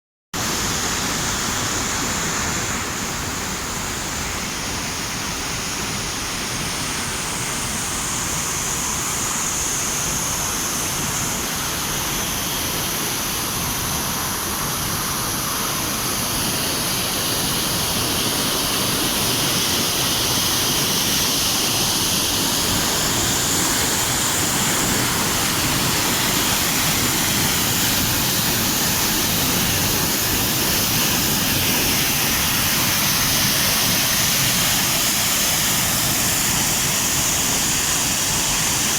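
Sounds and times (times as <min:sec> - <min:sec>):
waterfall rushing: 0:00.4 - 0:38.9.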